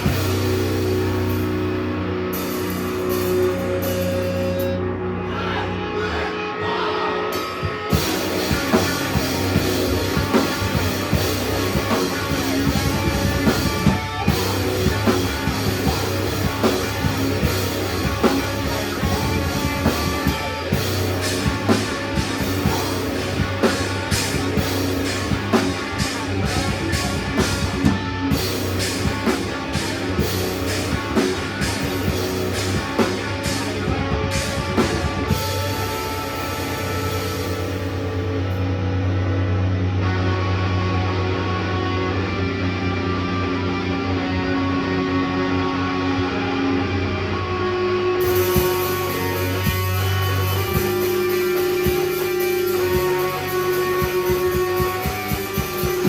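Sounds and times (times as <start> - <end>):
rock music with drums and guitar: 0.0 - 56.0.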